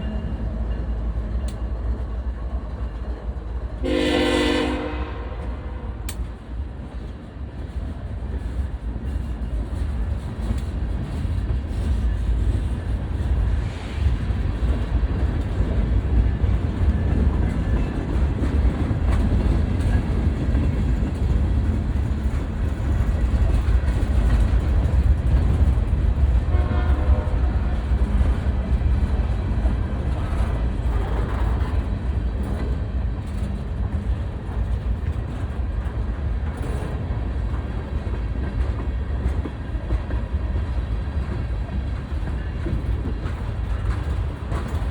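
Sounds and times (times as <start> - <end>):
train rumbling past: 0.0 - 44.9
wheels clacking over rail joints: 5.4 - 44.9.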